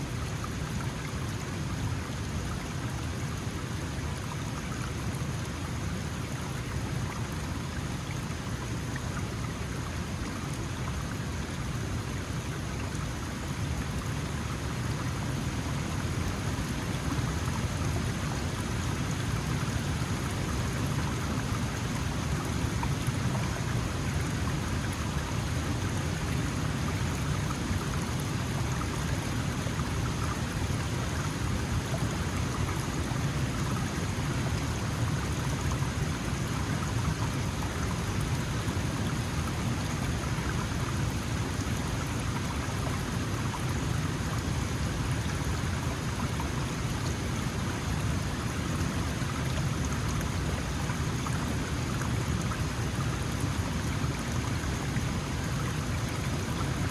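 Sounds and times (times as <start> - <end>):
stream rushing over stones: 0.1 - 56.9.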